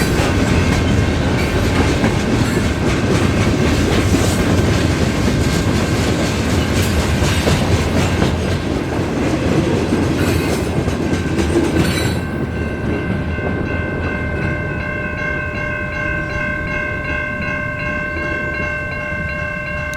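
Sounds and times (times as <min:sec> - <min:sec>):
freight train rumbling: 0:00.0 - 0:19.9.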